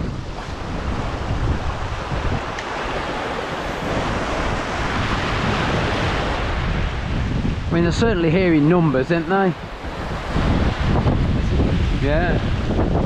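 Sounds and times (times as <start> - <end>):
sea surf breaking on rocks: 0.0 - 13.0
wind buffeting microphone: 0.0 - 13.0.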